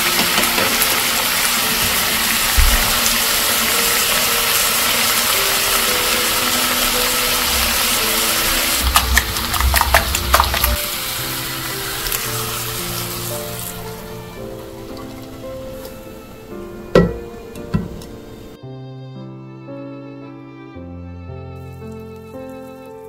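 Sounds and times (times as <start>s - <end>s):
vegetables sizzling in oil: 0.0s - 18.6s.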